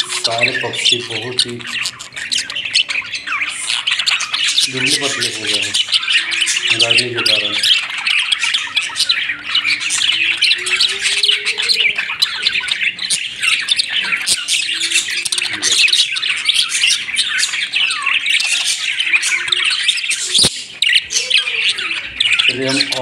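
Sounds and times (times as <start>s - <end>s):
budgerigars chattering: 0.0s - 23.0s.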